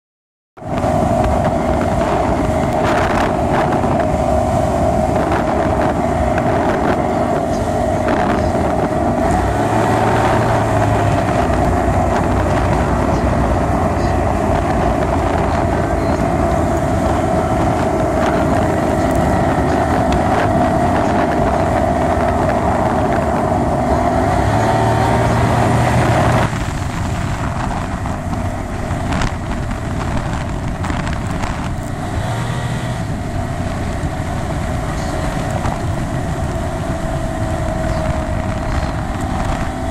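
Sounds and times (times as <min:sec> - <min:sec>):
outboard motor high-pitched drone: 0:00.6 - 0:39.9
wind on microphone: 0:00.6 - 0:39.9.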